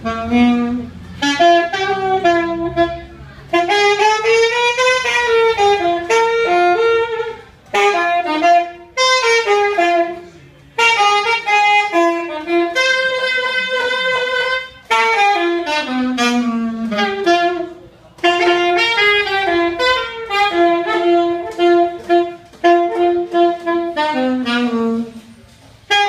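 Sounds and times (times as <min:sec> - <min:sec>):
alto saxophone solo: 0:00.0 - 0:26.0.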